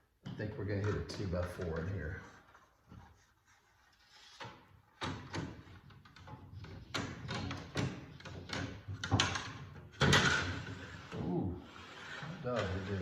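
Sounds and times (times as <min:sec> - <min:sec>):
knocks and scrapes inside wall: 0:00.2 - 0:13.0.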